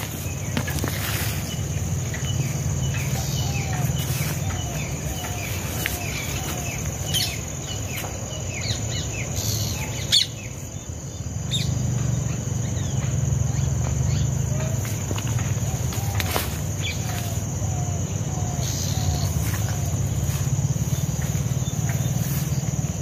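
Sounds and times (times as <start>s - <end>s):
birds chirping: 0.0s - 23.0s
insect drone: 0.0s - 23.0s.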